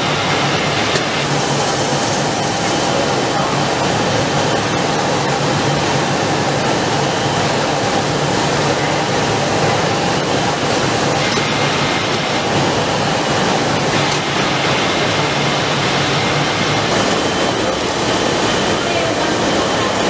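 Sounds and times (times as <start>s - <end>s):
machinery hiss: 0.0s - 20.0s.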